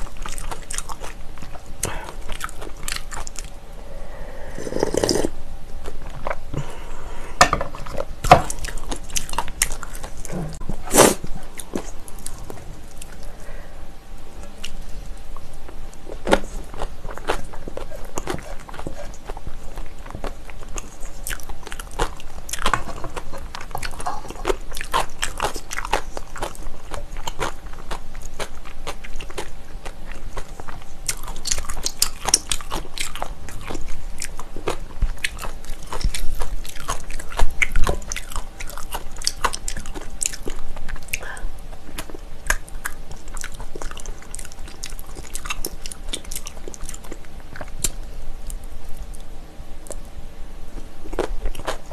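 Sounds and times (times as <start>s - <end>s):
chewing and mouth smacking: 0.0s - 3.6s, 7.7s - 10.6s, 14.4s - 50.1s, 50.8s - 51.9s.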